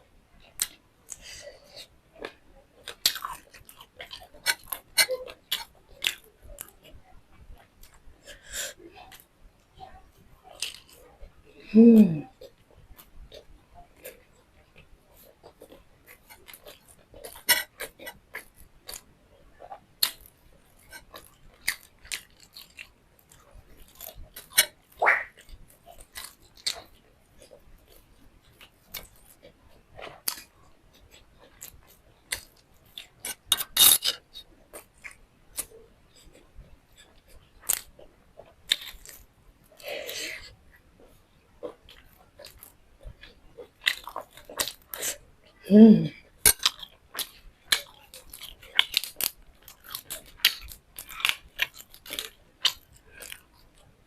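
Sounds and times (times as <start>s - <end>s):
food crunching: 0.4s - 7.0s, 10.4s - 11.1s, 12.2s - 45.3s, 46.2s - 54.0s
person chewing food: 0.4s - 54.0s.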